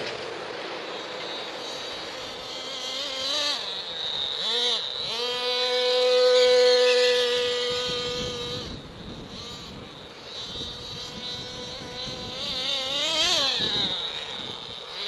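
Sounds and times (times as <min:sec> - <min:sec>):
small nitro engine revving: 0:00.0 - 0:15.0.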